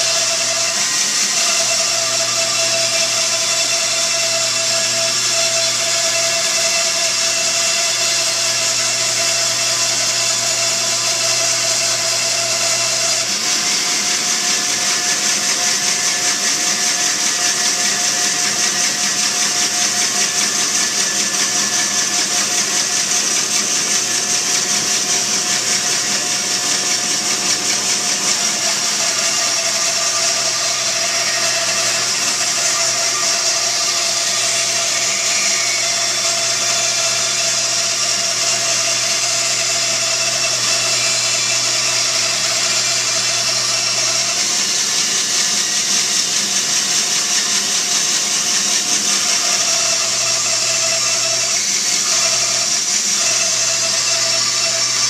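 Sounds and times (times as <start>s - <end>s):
bandsaw motor drone: 0.0s - 55.0s.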